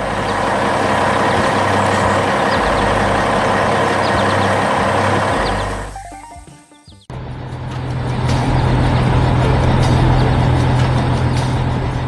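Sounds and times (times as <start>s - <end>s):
heavy truck engine rumbling: 0.0s - 6.3s, 7.0s - 12.0s.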